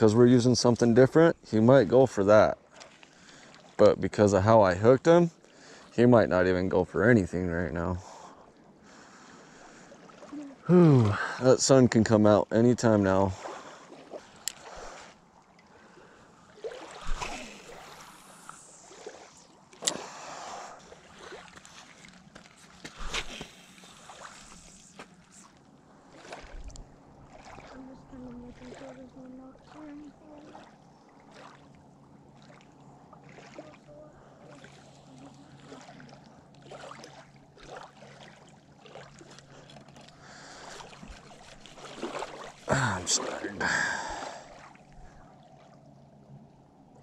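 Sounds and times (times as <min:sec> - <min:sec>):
water lapping: 0:00.0 - 0:47.0
wind: 0:00.0 - 0:47.0.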